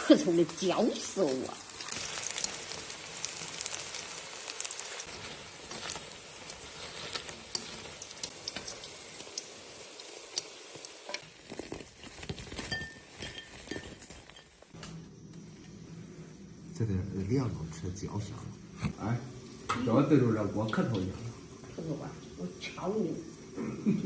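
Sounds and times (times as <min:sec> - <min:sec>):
batter sizzling in deep fat: 0:00.0 - 0:18.3, 0:18.9 - 0:24.0.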